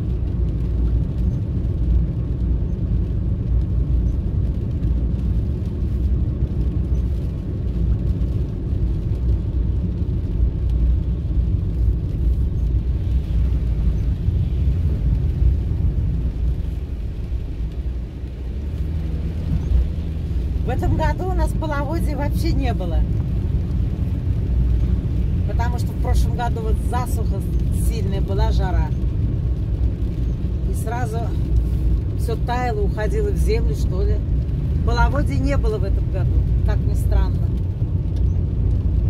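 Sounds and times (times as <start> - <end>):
car engine rumble: 0.0 - 39.0
tyres on wet road: 0.0 - 39.0.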